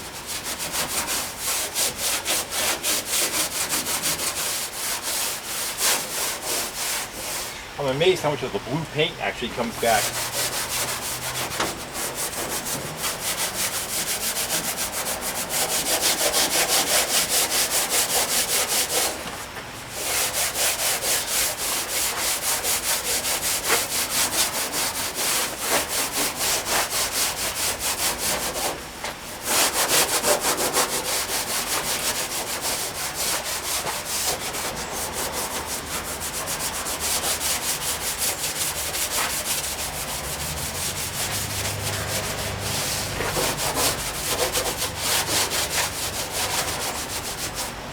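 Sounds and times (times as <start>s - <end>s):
scouring pad scrubbing painted steel: 0.0s - 47.9s.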